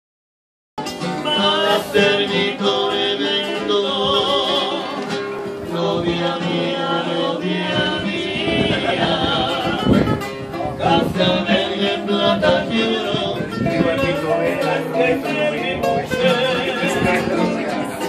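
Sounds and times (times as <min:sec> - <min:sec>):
acoustic guitars playing: 0:00.8 - 0:18.0
person singing: 0:01.2 - 0:05.1, 0:05.7 - 0:10.1, 0:10.8 - 0:18.0.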